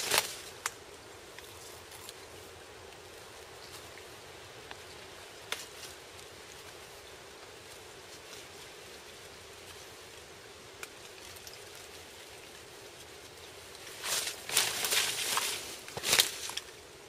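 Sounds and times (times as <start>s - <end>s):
faint rushing hiss: 0.0s - 17.0s.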